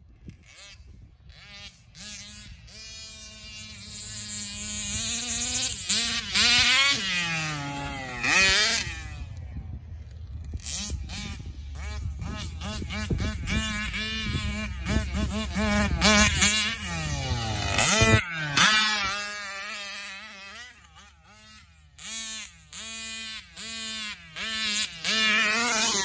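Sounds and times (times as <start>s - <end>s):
model car engine revving: 0.2s - 9.5s, 10.1s - 26.0s.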